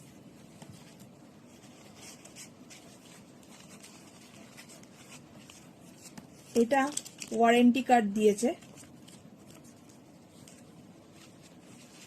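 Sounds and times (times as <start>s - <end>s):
paper packaging rustling: 0.5s - 12.0s.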